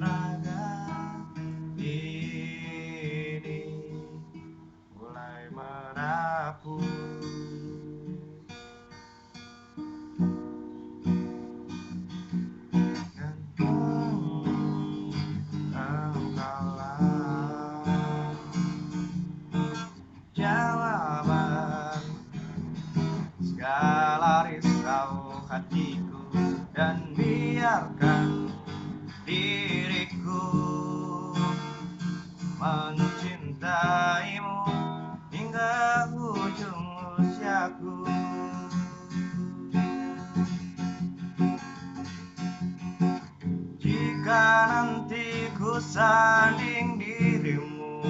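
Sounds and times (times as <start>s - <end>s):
strummed acoustic guitar: 0.0s - 48.0s.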